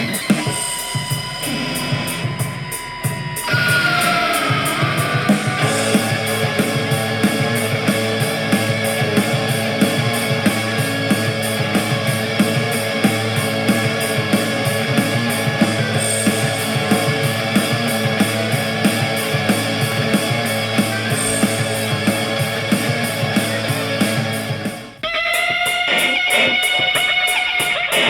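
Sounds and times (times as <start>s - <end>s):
rock music on small speaker: 0.0s - 28.0s.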